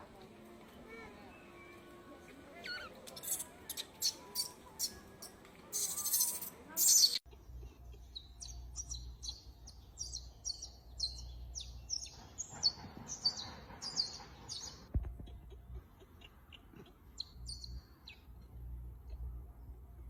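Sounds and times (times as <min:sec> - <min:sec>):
small birds chirping: 0:00.7 - 0:19.4.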